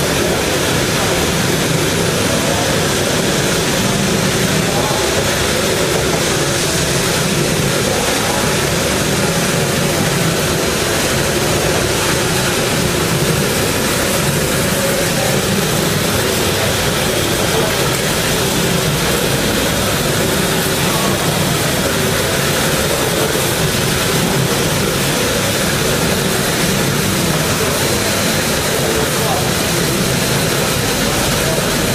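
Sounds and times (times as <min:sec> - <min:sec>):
wrapping machine running: 0:00.0 - 0:31.9.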